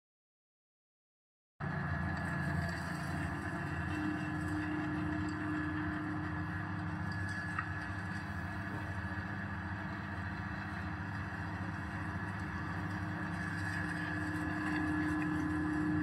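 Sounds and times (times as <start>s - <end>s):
grinding machine motor drone: 1.6s - 16.0s.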